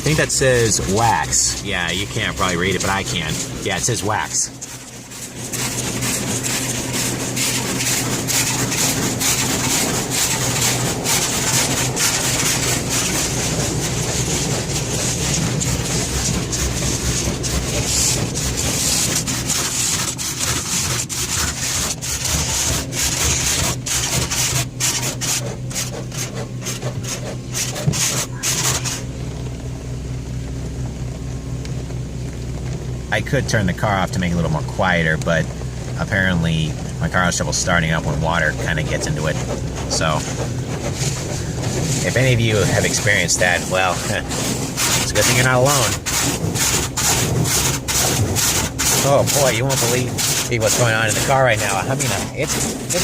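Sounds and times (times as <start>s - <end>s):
car wash spray hissing: 0.0s - 29.3s, 36.0s - 53.0s
car engine idling hum: 0.0s - 53.0s.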